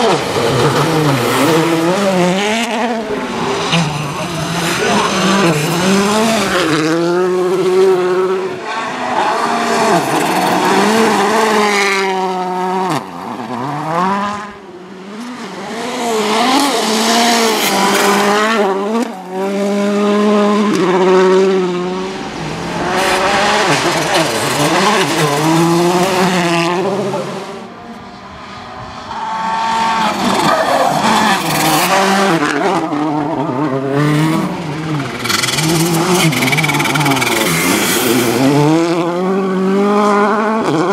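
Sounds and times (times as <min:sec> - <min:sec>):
car engine revving hard: 0:00.0 - 0:27.7, 0:29.4 - 0:40.9.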